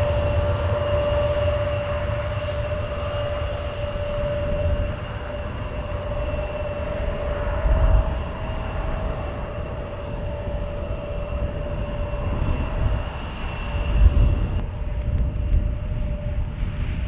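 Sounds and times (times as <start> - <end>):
jet engines whining: 0.0 - 17.0
wind gusting on microphone: 0.0 - 17.0.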